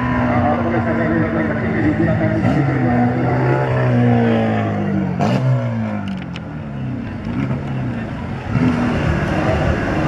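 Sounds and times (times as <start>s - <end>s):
race car engines revving: 0.0s - 10.0s.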